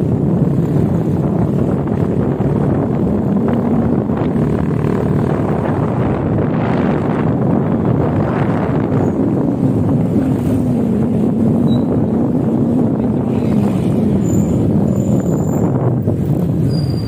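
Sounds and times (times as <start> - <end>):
motorcycle engine running: 0.0 - 16.7
wind rushing over microphone: 0.0 - 17.0.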